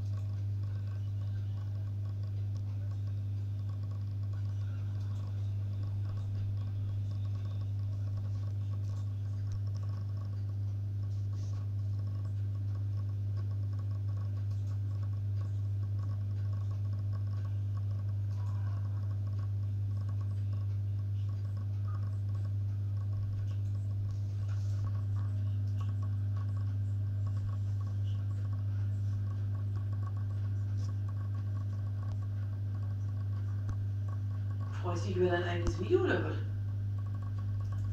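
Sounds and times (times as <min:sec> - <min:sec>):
faint ticks: 0:00.0 - 0:34.8
aquarium pump humming: 0:00.0 - 0:37.9.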